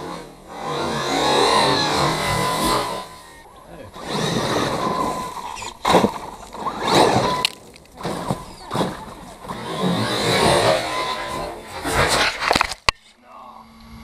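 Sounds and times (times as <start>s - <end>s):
driving over dry leaves: 0.0s - 12.9s
rc truck motor whining: 0.0s - 12.9s.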